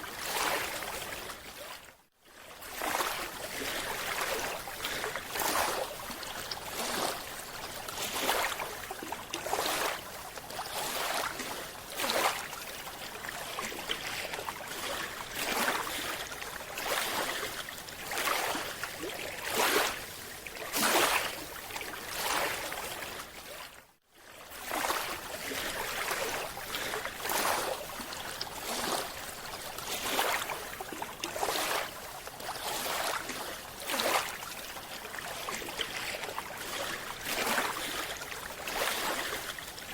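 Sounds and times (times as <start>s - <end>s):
water swishing and rushing: 0.0s - 39.9s.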